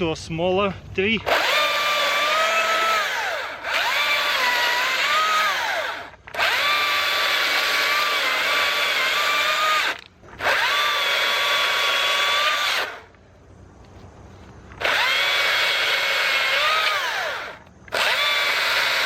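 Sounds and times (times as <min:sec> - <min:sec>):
electric chainsaw whining: 0:01.2 - 0:13.1, 0:14.8 - 0:19.0.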